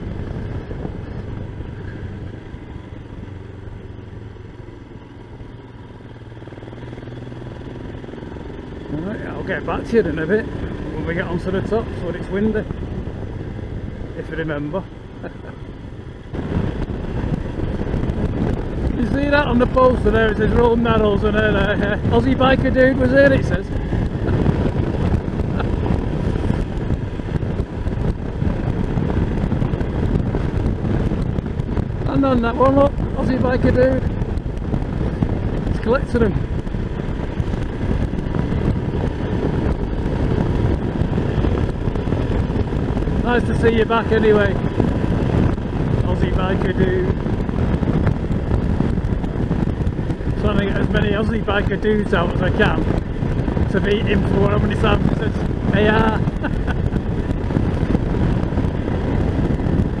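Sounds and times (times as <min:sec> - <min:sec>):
motorcycle engine running: 0:00.0 - 1:00.0
wind noise on microphone: 0:00.0 - 1:00.0.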